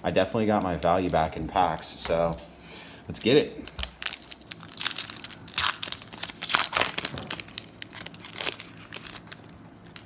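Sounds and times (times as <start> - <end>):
wrapper tearing and crinkling: 0.2 - 1.9, 3.1 - 10.0.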